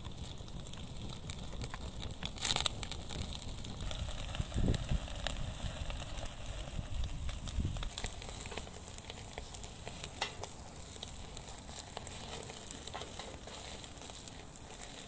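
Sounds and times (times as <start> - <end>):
crackles and pops: 0.0 - 15.0
meat sizzling over charcoal: 0.0 - 15.0.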